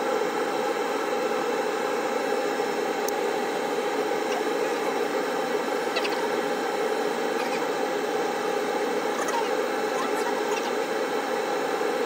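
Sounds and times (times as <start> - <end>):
laser engraver whirring: 0.0 - 12.0.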